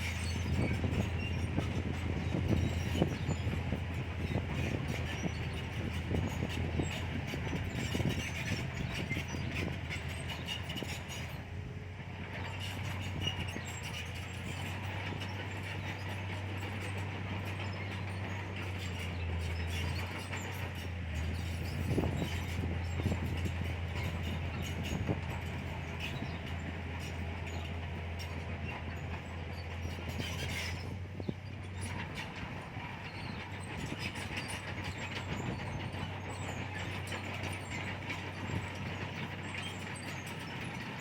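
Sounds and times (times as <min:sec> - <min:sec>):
bulldozer diesel engine running: 0:00.0 - 0:41.0
clanks of steel tracks: 0:00.0 - 0:41.0.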